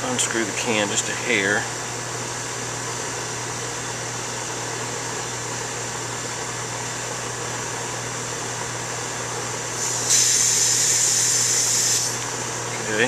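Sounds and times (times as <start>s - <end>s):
air conditioner unit running: 0.0s - 13.0s.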